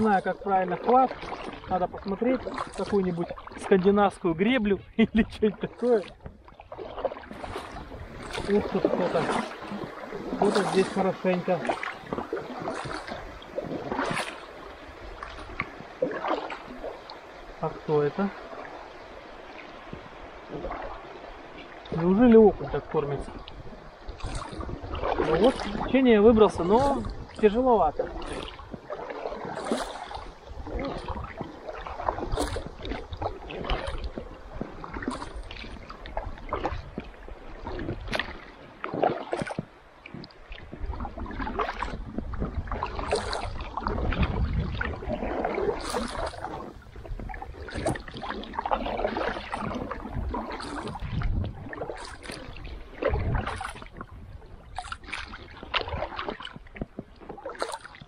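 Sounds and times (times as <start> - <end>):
paddle splashing into water: 0.0 - 4.3, 5.0 - 58.0
water dripping off paddle: 5.8 - 22.2, 23.2 - 58.0.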